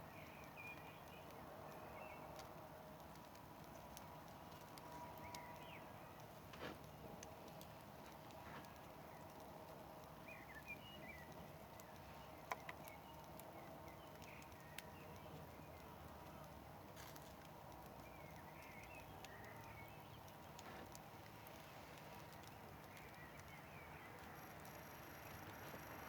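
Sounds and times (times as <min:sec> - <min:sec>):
campfire hissing: 0:00.0 - 0:26.0
wood pops and crackles: 0:00.2 - 0:26.0.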